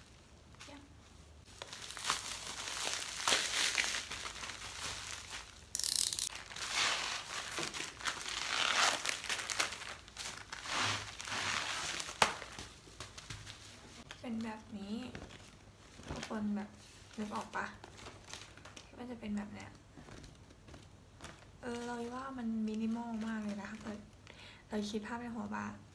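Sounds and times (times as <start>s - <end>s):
paper crinkling and rustling: 1.4s - 5.7s, 6.3s - 18.9s, 20.0s - 24.1s.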